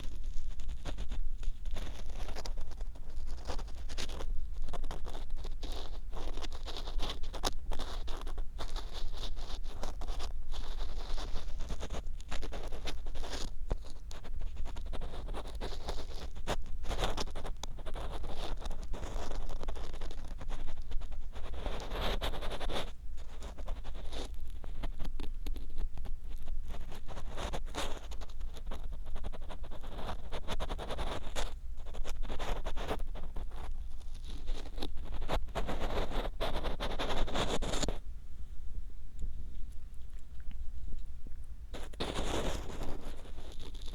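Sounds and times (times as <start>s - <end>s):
ear pick scraping microphone ear: 0.0s - 38.1s, 41.7s - 43.9s.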